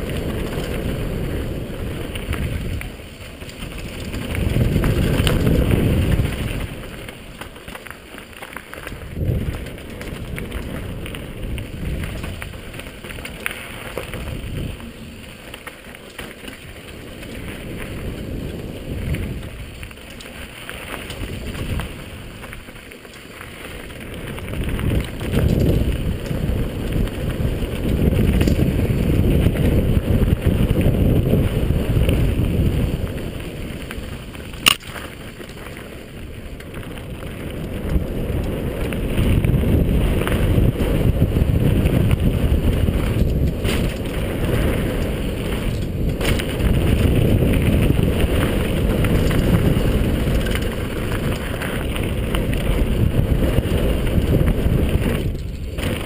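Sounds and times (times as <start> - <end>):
wind buffeting microphone: 0.0 - 7.8, 8.7 - 15.6, 16.4 - 22.9, 23.6 - 56.0
bike tyre and frame rattle: 0.0 - 56.0.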